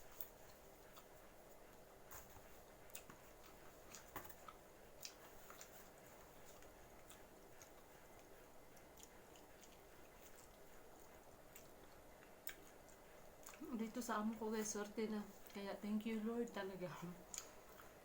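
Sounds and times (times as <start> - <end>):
quiet room hiss: 0.0 - 18.0
person chewing: 0.1 - 13.8, 17.2 - 18.0.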